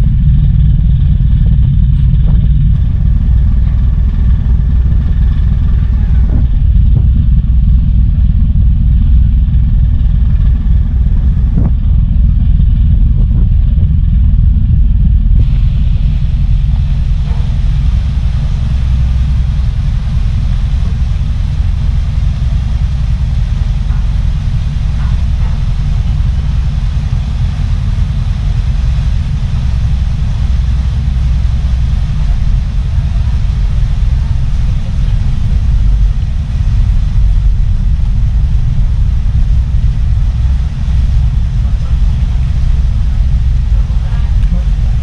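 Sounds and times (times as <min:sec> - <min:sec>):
ferry engine rumble: 0:00.0 - 0:45.0
propellers churning wake: 0:00.0 - 0:45.0
wind buffeting microphone: 0:00.0 - 0:45.0.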